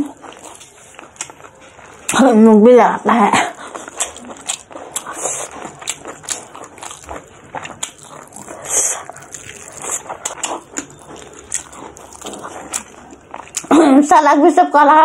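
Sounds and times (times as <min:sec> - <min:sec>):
wet chewing and lip-smacking: 0:00.0 - 0:02.4, 0:03.3 - 0:14.1.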